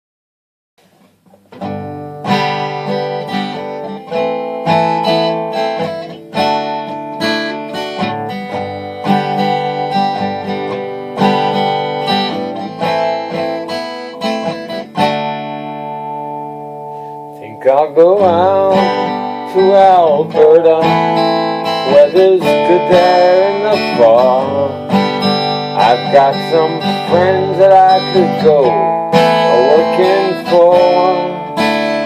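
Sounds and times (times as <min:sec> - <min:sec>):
strummed guitar chords: 0:00.8 - 0:32.0.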